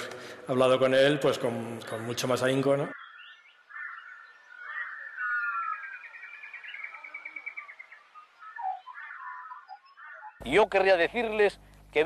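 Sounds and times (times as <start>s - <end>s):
birds chirping and trilling: 0.3s - 11.5s.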